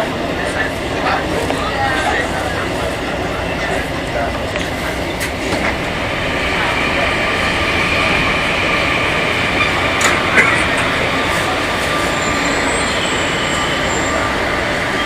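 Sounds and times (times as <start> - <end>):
train car rumbling: 0.0 - 15.0.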